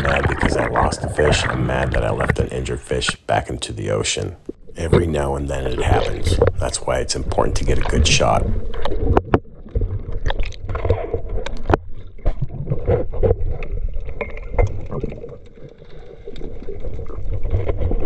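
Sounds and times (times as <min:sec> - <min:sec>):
water sloshing and gurgling: 0:00.0 - 0:18.0.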